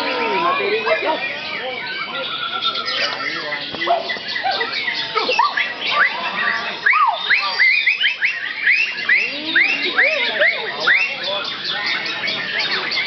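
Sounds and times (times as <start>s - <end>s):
songbirds whistling and chirping: 0.0s - 13.0s.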